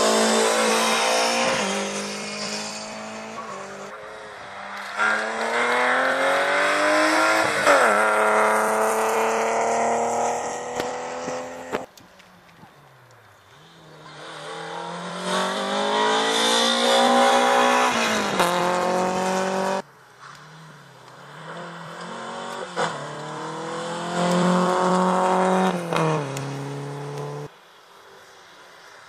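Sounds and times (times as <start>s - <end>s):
rally car engines accelerating: 0.0s - 11.9s, 13.6s - 27.5s.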